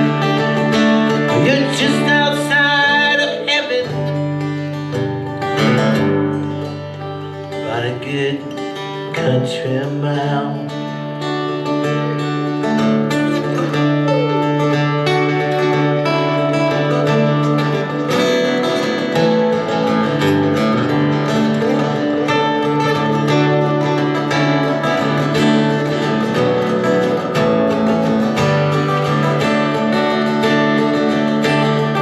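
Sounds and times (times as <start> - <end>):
acoustic guitar strummed and picked: 0.0 - 32.0.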